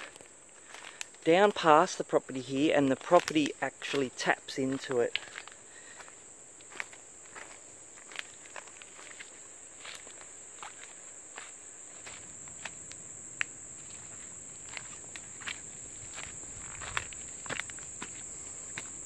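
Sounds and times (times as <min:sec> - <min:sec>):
footsteps crunching on leaves and stones: 0:00.0 - 0:19.0
insects droning: 0:00.0 - 0:19.0.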